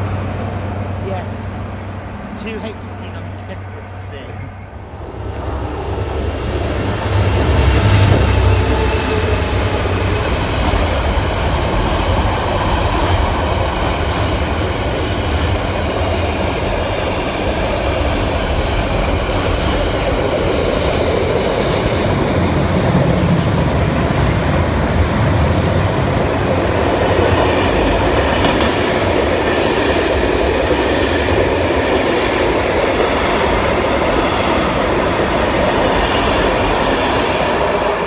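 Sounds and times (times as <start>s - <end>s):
diesel locomotive engine rumble: 0.0s - 38.0s
freight train rolling past: 0.0s - 38.0s.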